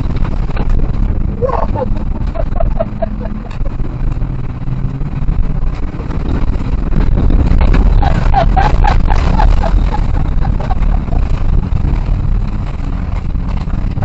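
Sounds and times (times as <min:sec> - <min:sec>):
loud car engine: 0:00.0 - 0:14.0
road and chassis rumble: 0:00.0 - 0:14.0.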